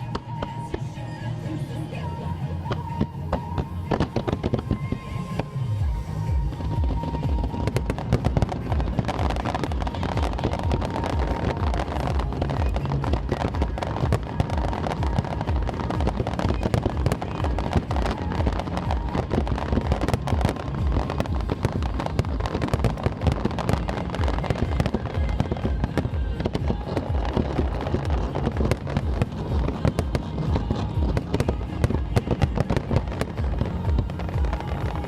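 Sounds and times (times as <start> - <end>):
fireworks bangs and crackling: 0.0 - 0.9, 2.0 - 35.0
music: 0.0 - 35.0.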